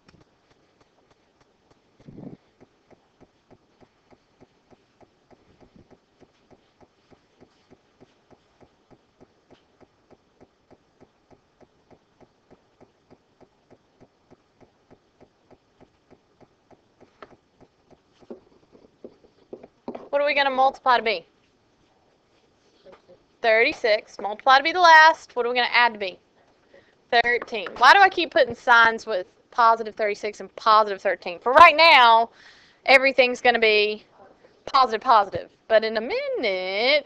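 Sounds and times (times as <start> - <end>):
faint rapid ticking: 0.0 - 37.0.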